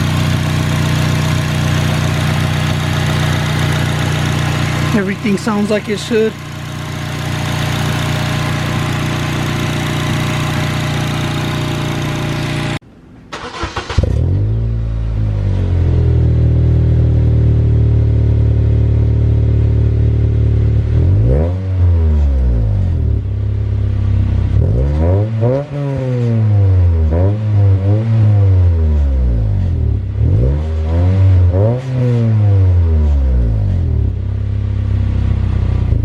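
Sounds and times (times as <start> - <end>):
car engine idling and revving: 0.0 - 12.8, 13.4 - 36.0.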